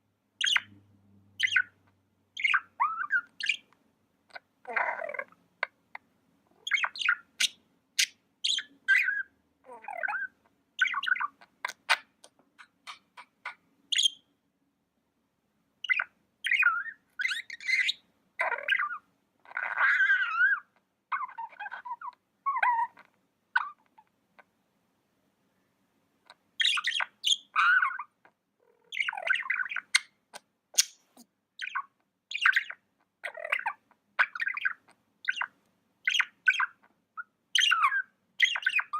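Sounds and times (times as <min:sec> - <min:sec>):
budgies chirping and warbling: 0:00.4 - 0:03.7, 0:04.3 - 0:06.0, 0:06.6 - 0:14.3, 0:15.8 - 0:24.0, 0:26.2 - 0:38.9.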